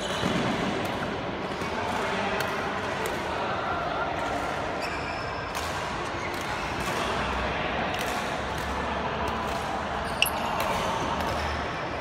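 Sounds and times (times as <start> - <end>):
sports hall low hum: 0.0 - 12.0.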